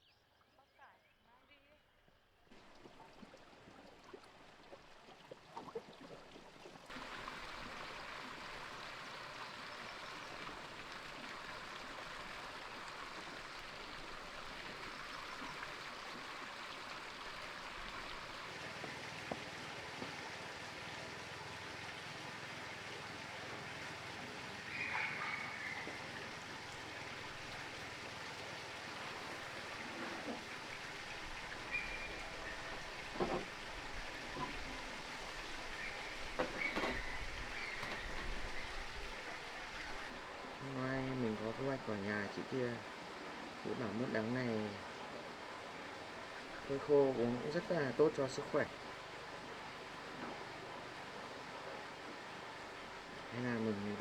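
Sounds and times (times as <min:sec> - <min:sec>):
running water rushing: 0:02.5 - 0:54.0.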